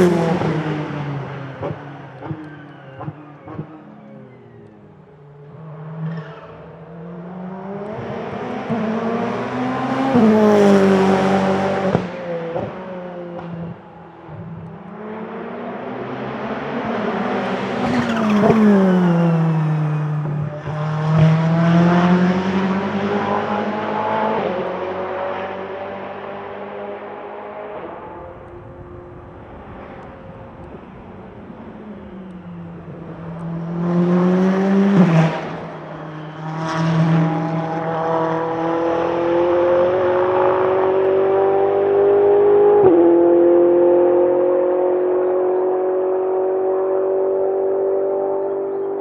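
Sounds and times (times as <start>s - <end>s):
race cars passing at speed: 0.0s - 49.0s.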